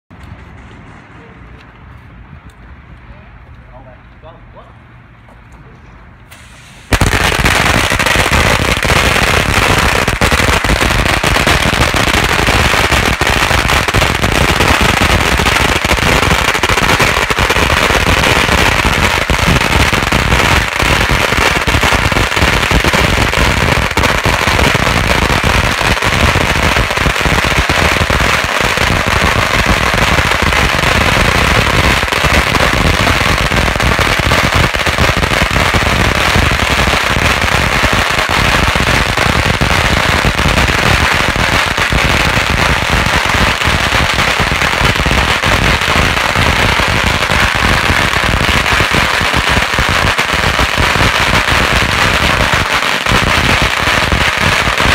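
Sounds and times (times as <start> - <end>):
firecrackers crackling: 6.3 - 54.9.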